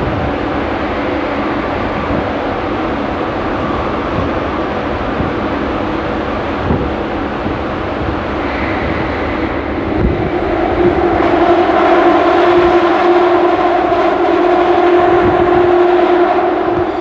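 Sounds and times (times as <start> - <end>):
train rumbling through tunnel: 0.0 - 17.0
two-pitch hum: 0.0 - 17.0.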